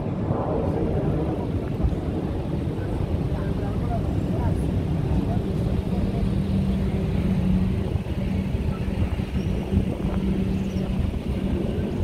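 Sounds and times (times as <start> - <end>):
traffic rumble: 0.0 - 12.0
vehicle engine running: 1.5 - 12.0.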